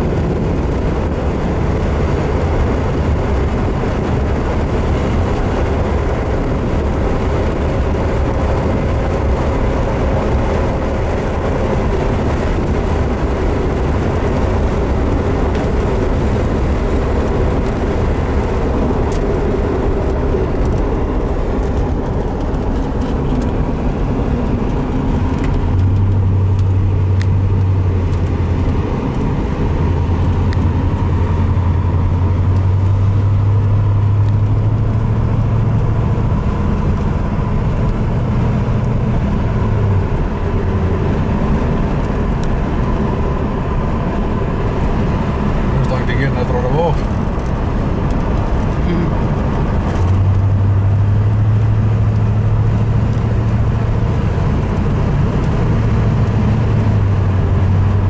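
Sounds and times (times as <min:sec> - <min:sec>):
car engine drone: 0:00.0 - 0:58.0
road noise inside car: 0:00.0 - 0:58.0.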